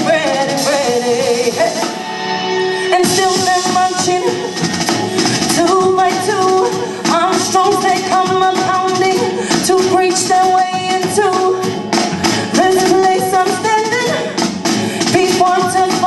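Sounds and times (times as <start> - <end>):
woman singing into a microphone: 0.0 - 2.1, 2.7 - 16.0
musical backing: 0.0 - 16.0.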